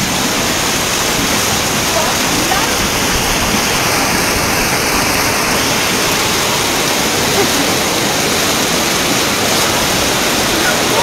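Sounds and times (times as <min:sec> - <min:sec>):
floodwater rushing down a street: 0:00.0 - 0:11.0.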